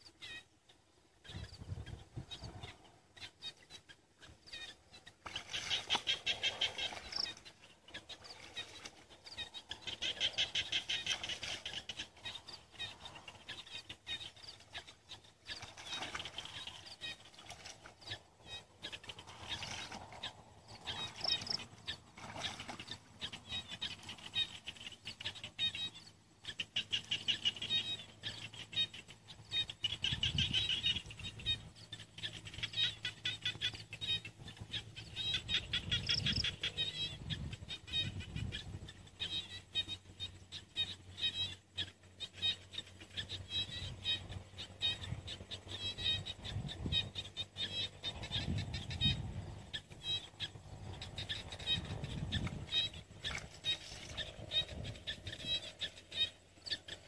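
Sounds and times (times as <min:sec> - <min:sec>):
small animals chirping trills: 0:01.2 - 0:57.0.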